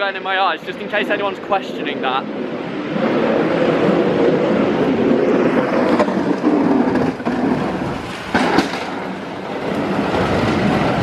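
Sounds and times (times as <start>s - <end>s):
loud steady rumbling: 0.0s - 11.0s.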